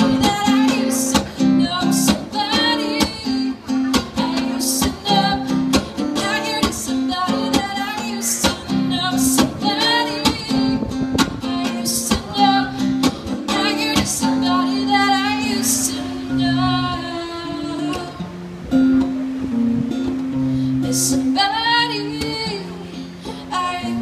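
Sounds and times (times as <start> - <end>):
woman singing: 0.0 - 18.4, 20.4 - 24.0
acoustic guitar strumming: 0.0 - 24.0.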